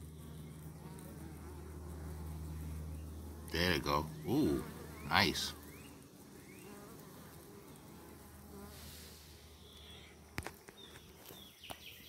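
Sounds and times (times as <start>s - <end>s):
bees buzzing: 0.0s - 11.5s.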